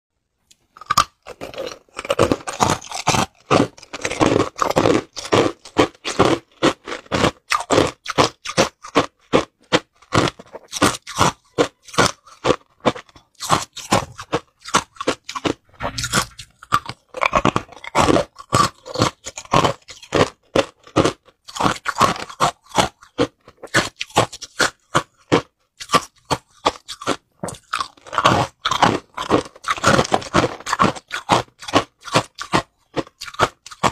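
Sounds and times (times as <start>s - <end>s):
person crunching ice cubes: 0.5s - 33.9s.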